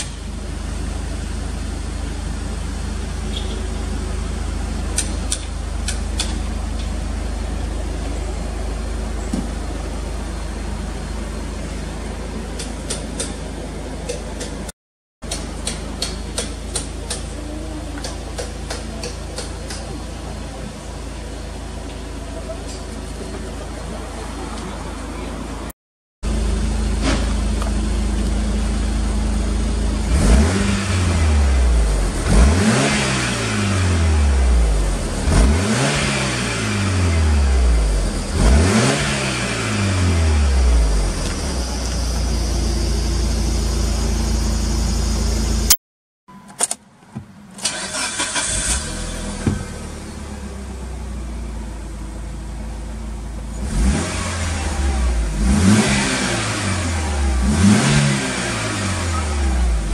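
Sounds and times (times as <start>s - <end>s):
car engine revving and idling: 0.0s - 45.8s, 47.6s - 59.9s.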